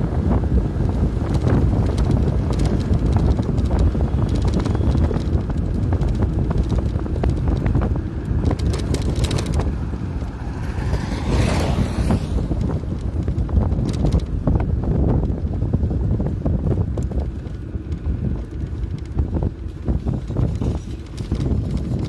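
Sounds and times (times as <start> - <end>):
road rumble: 0.0 - 22.0
wind rushing over microphone: 0.0 - 22.0
clicks and rattles: 1.2 - 11.8, 12.5 - 15.4, 16.9 - 22.0.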